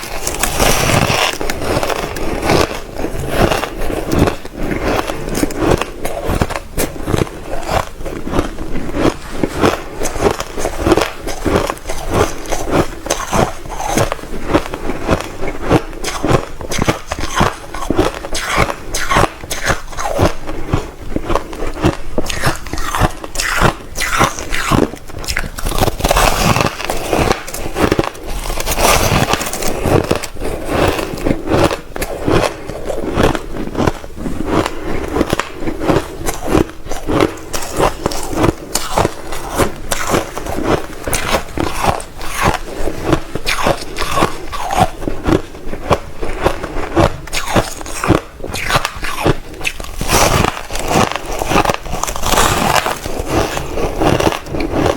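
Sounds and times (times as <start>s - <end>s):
crushed ice being chewed: 0.0s - 54.9s.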